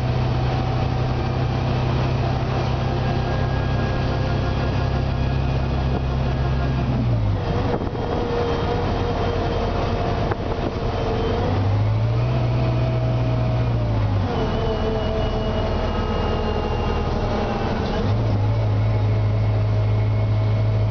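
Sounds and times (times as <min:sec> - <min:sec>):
bus engine drone: 0:00.0 - 0:20.9
road noise: 0:00.0 - 0:20.9
transmission whine: 0:00.0 - 0:20.9.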